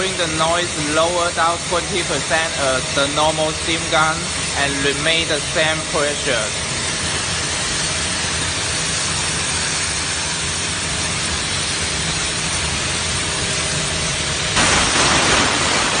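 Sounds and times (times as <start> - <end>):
low machine hum: 0.0 - 16.0
steam hissing from a nozzle: 0.0 - 16.0.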